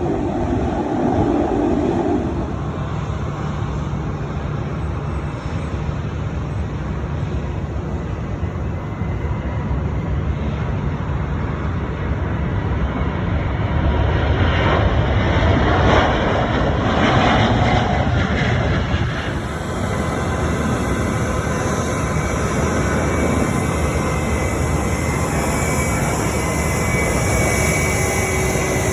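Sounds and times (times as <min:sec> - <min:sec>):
jet airliner engines rumbling: 0:00.0 - 0:28.9.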